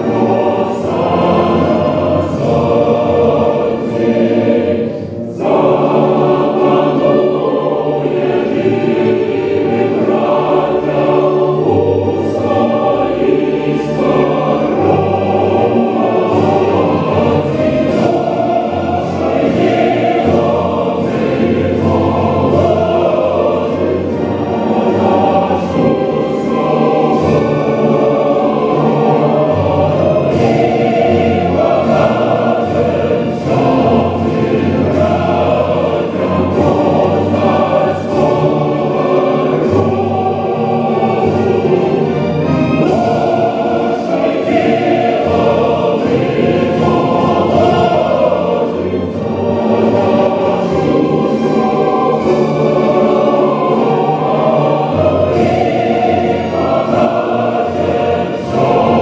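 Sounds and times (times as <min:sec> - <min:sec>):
choir singing: 0:00.0 - 0:59.0
musical accompaniment: 0:00.0 - 0:59.0.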